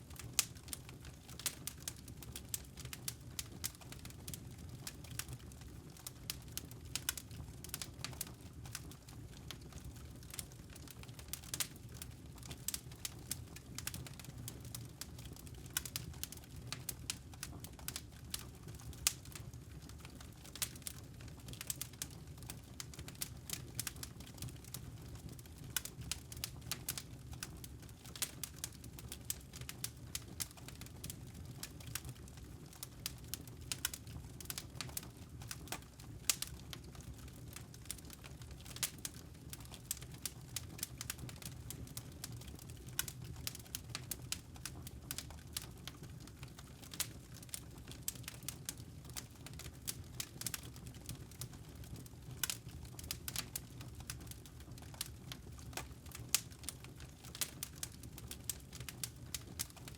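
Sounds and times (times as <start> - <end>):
campfire crackling: 0.1 - 59.9.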